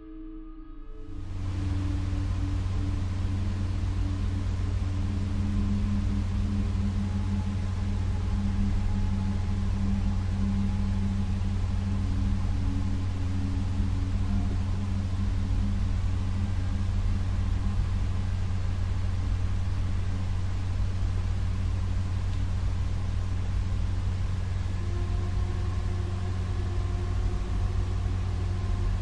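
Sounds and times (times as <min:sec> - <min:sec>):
low droning hum: 0:00.0 - 0:29.0.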